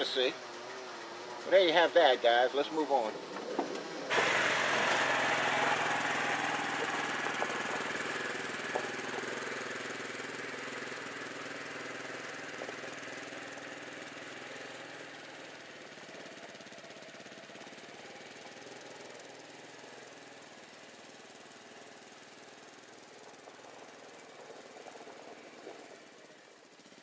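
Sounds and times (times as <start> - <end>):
tractor diesel engine knocking: 0.0 - 3.4, 4.1 - 26.0.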